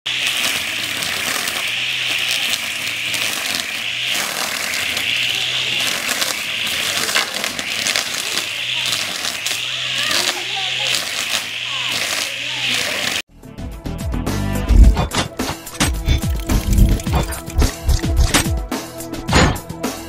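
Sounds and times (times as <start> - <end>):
grass and debris crackling: 0.1 - 13.2, 14.7 - 18.5.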